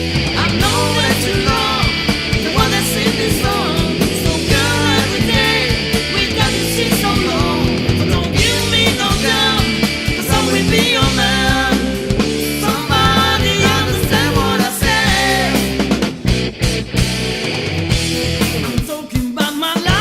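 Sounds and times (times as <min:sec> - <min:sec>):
bending melodic lead guitar: 0:00.0 - 0:18.9
rock band playing: 0:00.0 - 0:20.0.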